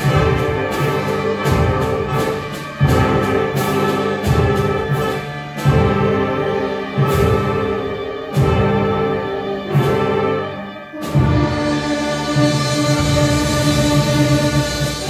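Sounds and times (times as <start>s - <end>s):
concert band playing: 0.0s - 15.0s.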